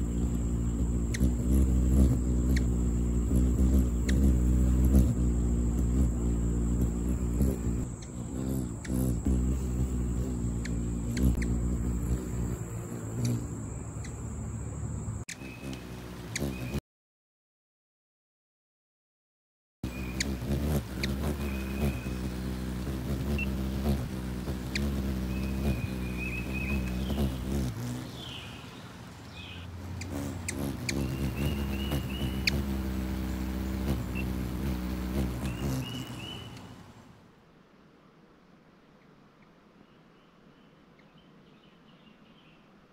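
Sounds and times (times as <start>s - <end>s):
hummingbird wings humming: 0.0s - 16.8s, 19.8s - 42.9s.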